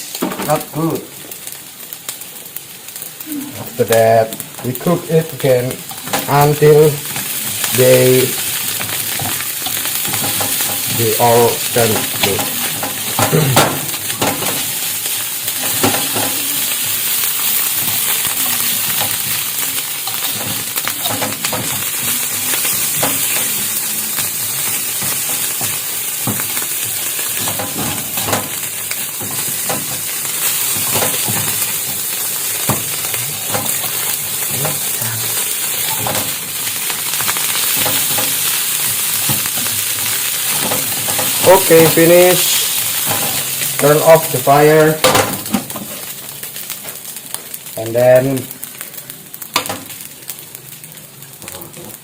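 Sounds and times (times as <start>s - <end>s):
fried rice sizzling in a pan: 0.0s - 52.0s.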